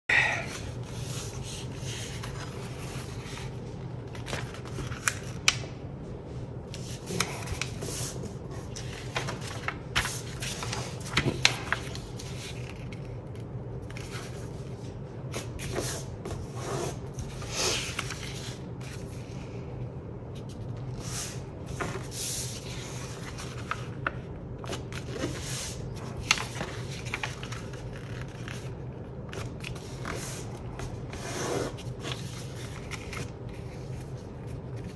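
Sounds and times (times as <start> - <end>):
steady low hum: 0.1 - 34.9
paper rustling and folding: 0.4 - 19.7, 20.3 - 34.9.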